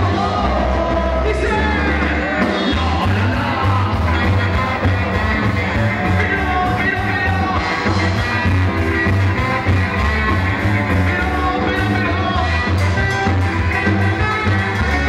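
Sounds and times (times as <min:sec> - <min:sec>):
live ska band playing: 0:00.0 - 0:15.0
person singing: 0:00.0 - 0:15.0
saxophone: 0:02.3 - 0:15.0.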